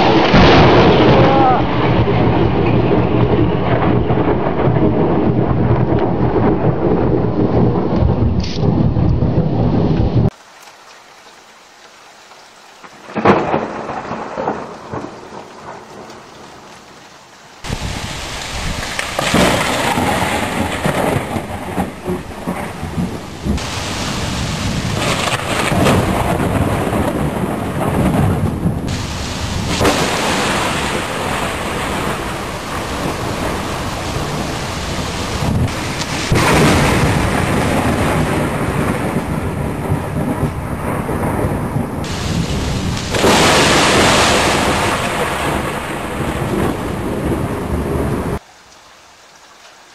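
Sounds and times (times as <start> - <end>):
rolling thunder: 0.0 - 10.3, 13.1 - 16.2, 17.6 - 48.4
sharp thunderclap: 0.0 - 10.3, 13.1 - 15.8, 17.6 - 48.4
heavy rain: 0.0 - 49.9.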